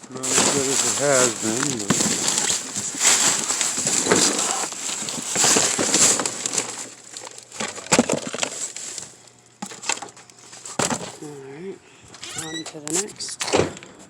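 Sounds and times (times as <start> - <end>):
trash rustling and crinkling: 0.0 - 11.4.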